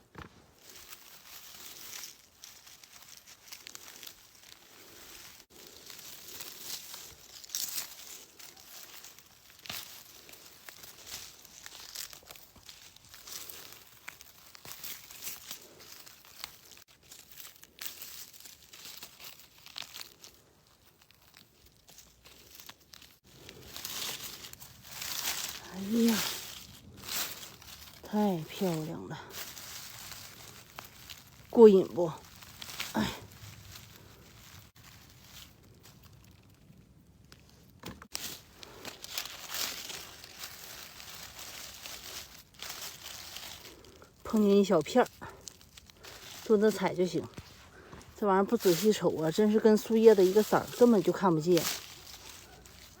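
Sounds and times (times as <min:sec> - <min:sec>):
dry leaves rustling and crackling: 0:00.0 - 0:53.0.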